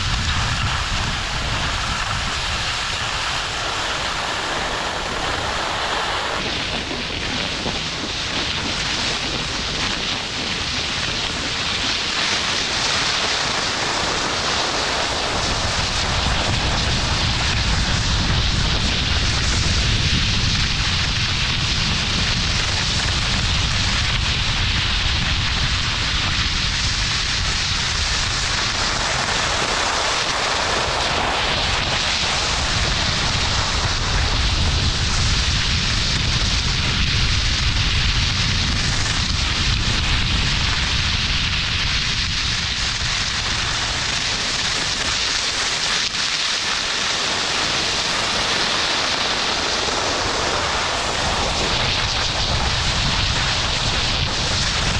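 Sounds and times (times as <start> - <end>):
skis sliding on snow: 0.0 - 54.9
wind buffeting microphone: 0.0 - 54.9.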